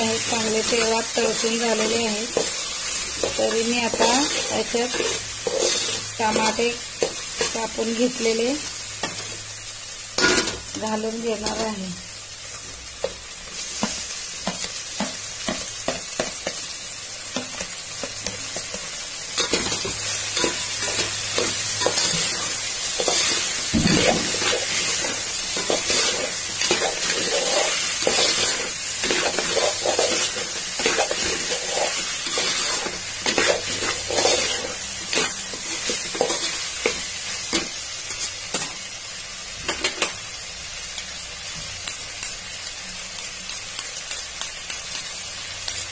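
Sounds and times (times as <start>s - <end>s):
vegetables sizzling in hot oil: 0.0s - 45.9s.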